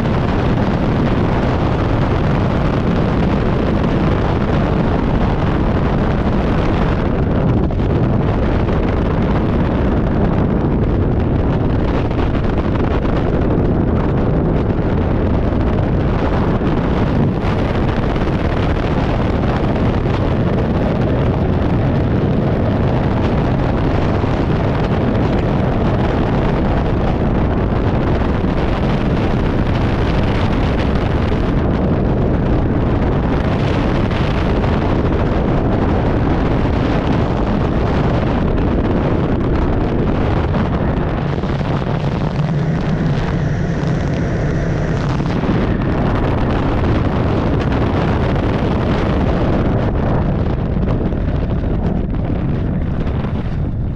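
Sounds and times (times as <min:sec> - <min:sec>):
wind roaring over microphone: 0:00.0 - 0:53.9.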